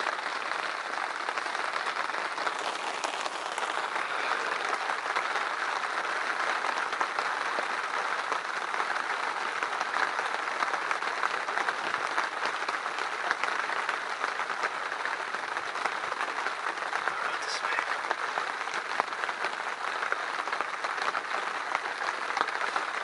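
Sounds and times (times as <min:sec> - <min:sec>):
steady rain beating: 0:00.0 - 0:23.0.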